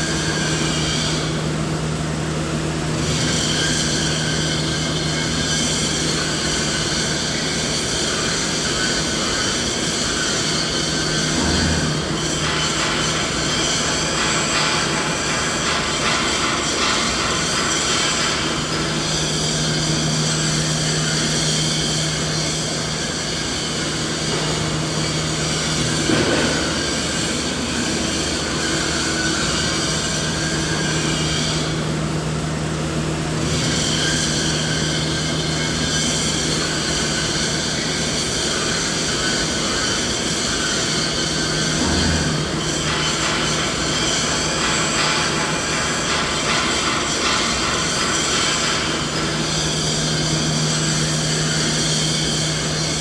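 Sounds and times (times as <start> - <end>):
low machinery hum: 0.0 - 53.0.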